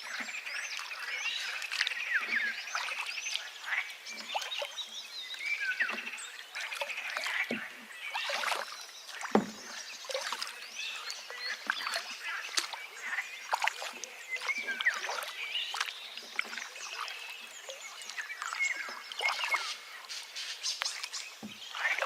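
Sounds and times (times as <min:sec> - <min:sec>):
birds chirping and trilling: 0:00.0 - 0:22.0
low water plops: 0:00.0 - 0:22.0
river flowing: 0:00.0 - 0:22.0.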